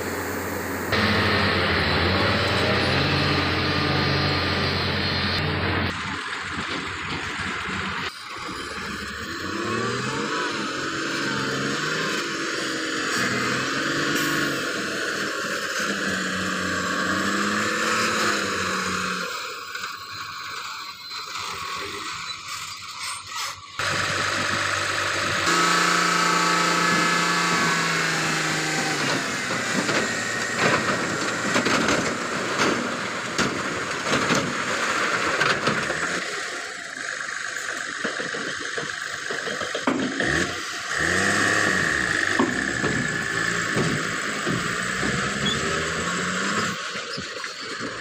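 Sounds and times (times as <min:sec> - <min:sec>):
diesel truck engine revving: 0:00.0 - 0:22.8, 0:23.8 - 0:48.0.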